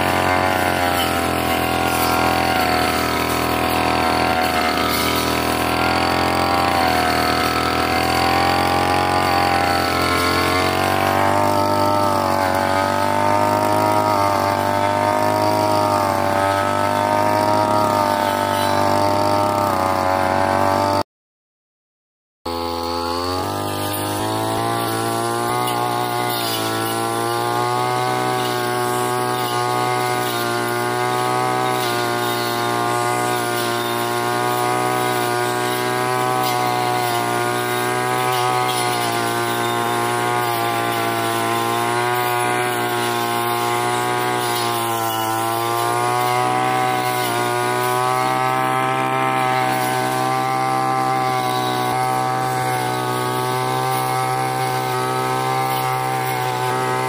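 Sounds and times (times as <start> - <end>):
blade cutting grass and saplings: 0.0 - 21.0, 22.5 - 57.0
brush cutter engine at high revs: 0.0 - 21.1, 22.5 - 57.0.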